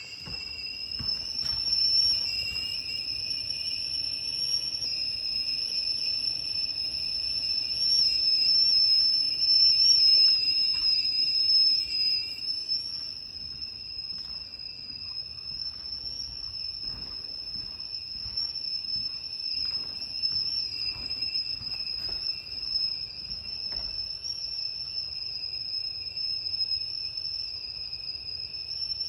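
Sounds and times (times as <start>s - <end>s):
kettle whistling: 0.0s - 29.0s.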